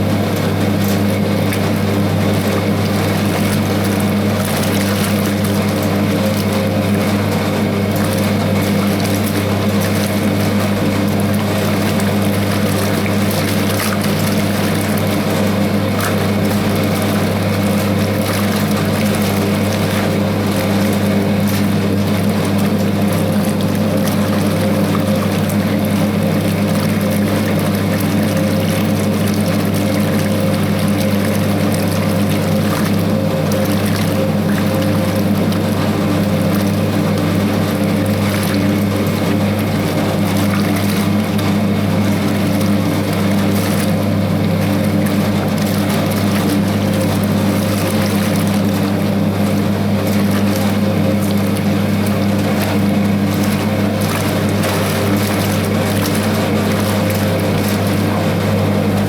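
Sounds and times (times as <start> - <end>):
washing machine motor humming: 0.0 - 59.0
water churning: 0.0 - 59.0.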